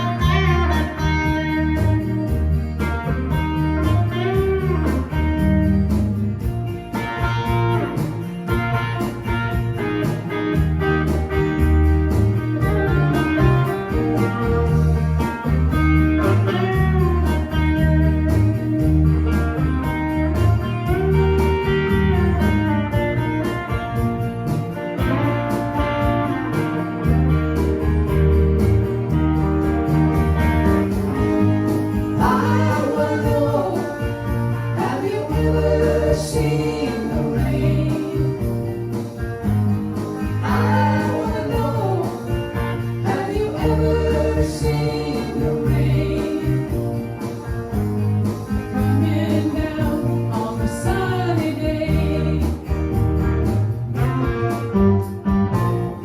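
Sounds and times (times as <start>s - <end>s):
pulsing bass line: 0.0s - 56.0s
strummed guitar chords: 0.0s - 56.0s.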